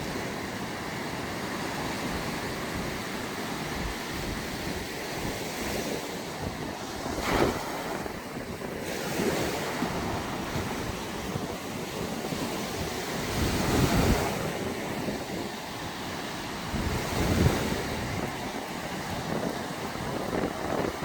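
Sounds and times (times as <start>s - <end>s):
sea waves breaking on beach: 0.0s - 21.0s
wind buffeting microphone: 0.0s - 21.0s.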